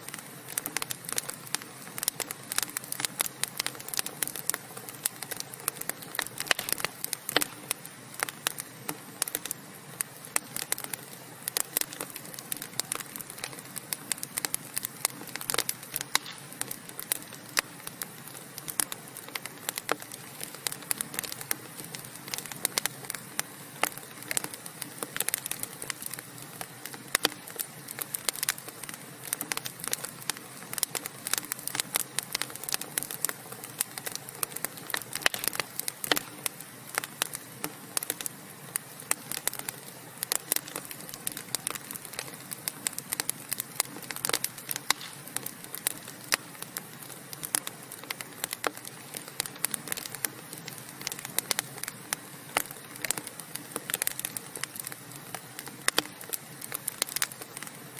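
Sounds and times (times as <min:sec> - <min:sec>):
burning wood crackling and popping: 0:00.0 - 0:57.9.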